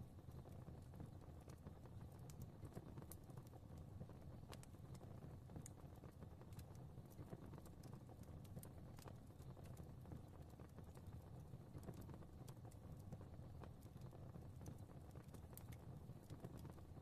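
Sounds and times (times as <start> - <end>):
fire crackling: 0.0 - 17.0
fire low rumble: 0.0 - 17.0.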